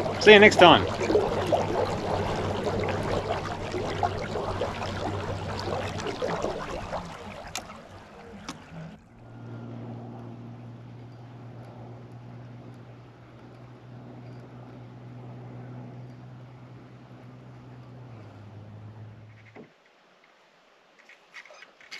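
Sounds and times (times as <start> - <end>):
steady low hum: 0.0 - 19.5
water rushing along hull: 0.0 - 21.9.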